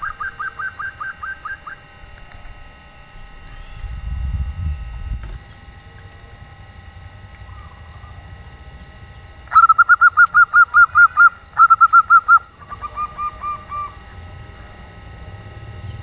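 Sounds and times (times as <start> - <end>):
dove cooing notes: 0.0 - 2.6, 5.3 - 16.0.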